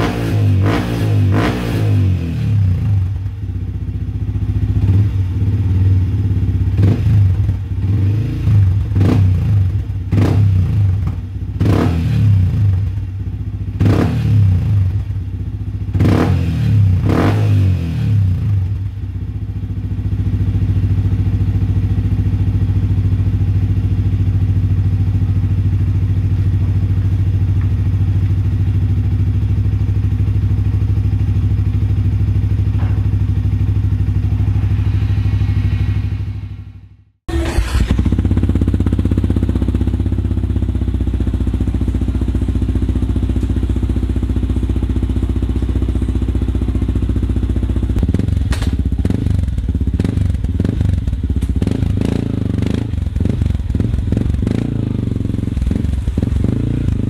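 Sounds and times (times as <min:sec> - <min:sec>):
motorcycle engine revving: 0:00.0 - 0:15.2, 0:15.8 - 0:18.9, 0:19.8 - 0:57.0
motorcycle engine idling: 0:02.5 - 0:11.7, 0:12.3 - 0:16.1, 0:18.3 - 0:57.0.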